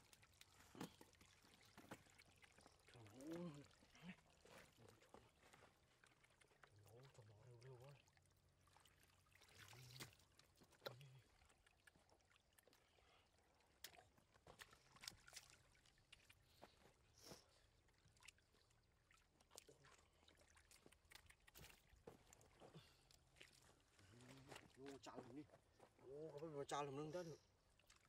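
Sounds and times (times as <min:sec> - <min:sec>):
small splashes in shallow water: 0:00.0 - 0:28.0.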